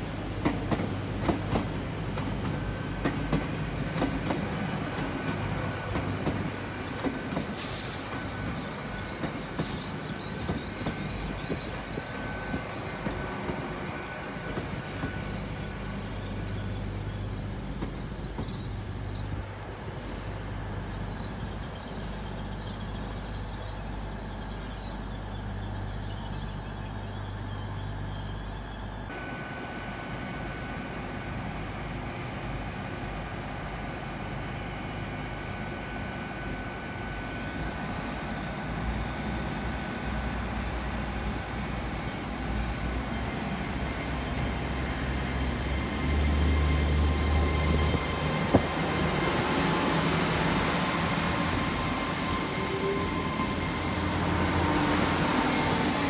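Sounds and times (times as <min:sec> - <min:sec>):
train diesel engine rumble: 0:00.0 - 0:56.0
train whine rising in pitch: 0:02.2 - 0:19.2, 0:19.9 - 0:56.0.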